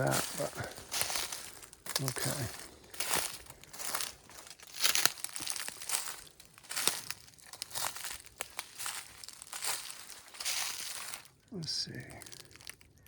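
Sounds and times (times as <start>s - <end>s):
footsteps crunching dry leaves: 0.0s - 12.8s.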